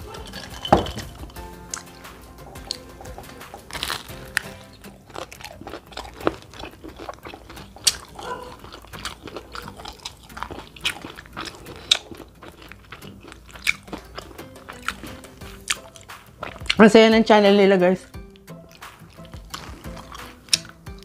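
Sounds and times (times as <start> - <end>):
crunchy fried chicken being chewed: 0.0 - 16.9, 18.1 - 21.0.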